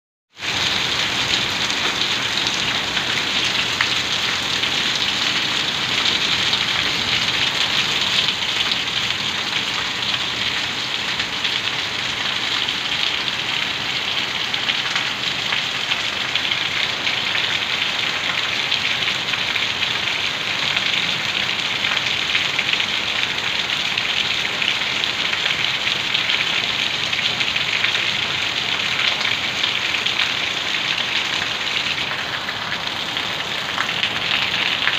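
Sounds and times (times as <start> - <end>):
heavy rain on roofs: 0.3 - 34.9.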